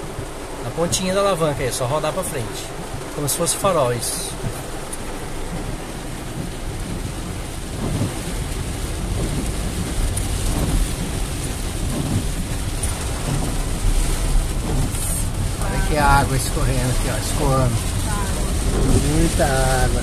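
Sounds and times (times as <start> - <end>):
heavy rain on car roof: 0.0 - 20.0.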